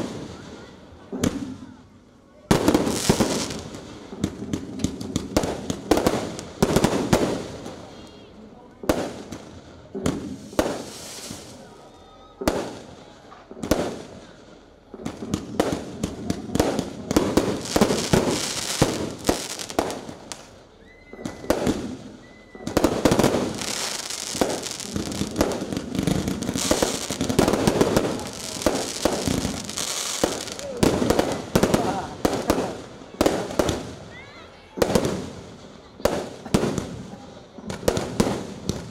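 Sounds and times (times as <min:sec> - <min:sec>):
fireworks bangs: 0:00.0 - 0:38.9
fireworks sparks crackling: 0:00.0 - 0:38.9.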